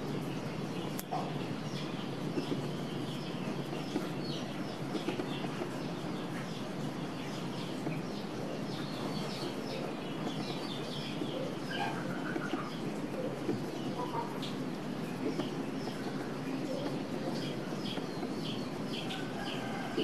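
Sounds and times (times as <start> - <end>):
birds chirping: 0.0 - 20.0
low background noise: 0.0 - 20.0.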